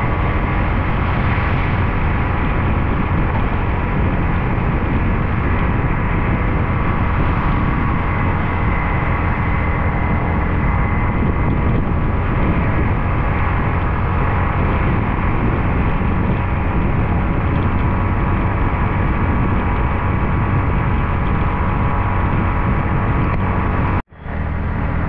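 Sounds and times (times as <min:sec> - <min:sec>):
motorcycle engine drone: 0:00.0 - 0:25.0
wind rush on microphone: 0:00.0 - 0:25.0.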